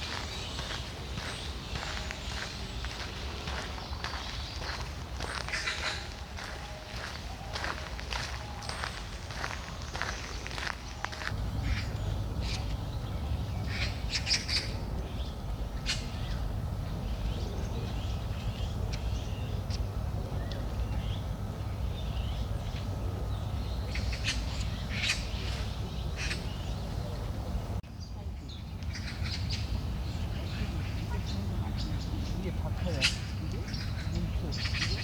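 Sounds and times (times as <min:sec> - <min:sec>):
birds squawking: 0:00.0 - 0:19.8, 0:23.7 - 0:27.3, 0:28.9 - 0:35.0
steady low rumble: 0:00.0 - 0:35.0.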